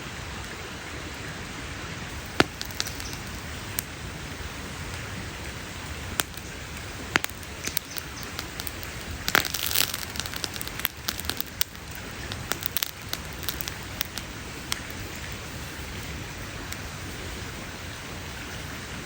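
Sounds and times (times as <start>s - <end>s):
wood campfire crackling: 0.2s - 19.0s.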